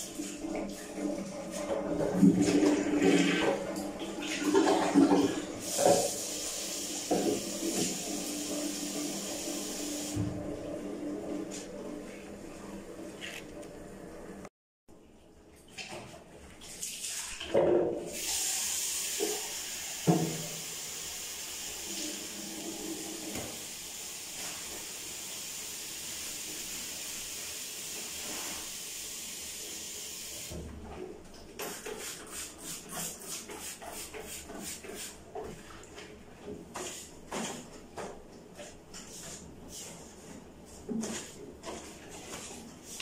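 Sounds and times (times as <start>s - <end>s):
tap water running: 0.0s - 12.0s, 15.8s - 39.9s.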